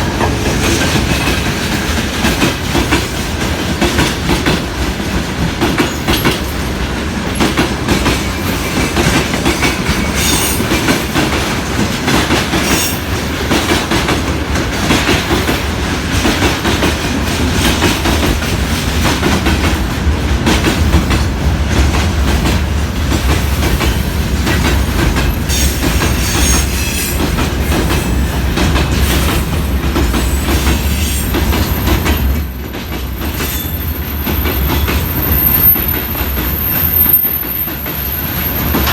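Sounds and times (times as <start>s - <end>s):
train low rumble: 0.0s - 38.9s
wheels clacking over rail joints: 0.0s - 38.9s.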